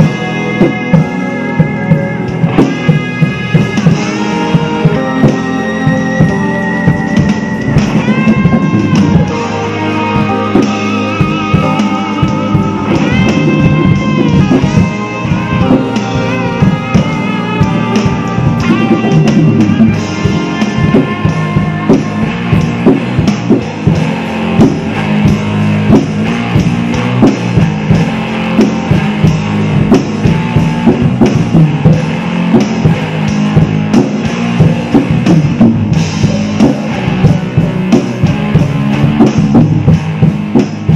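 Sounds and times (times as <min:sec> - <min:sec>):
drum kit playing: 0:00.0 - 0:40.9
lead electric guitar: 0:00.0 - 0:40.9
rock backing track: 0:00.0 - 0:40.9.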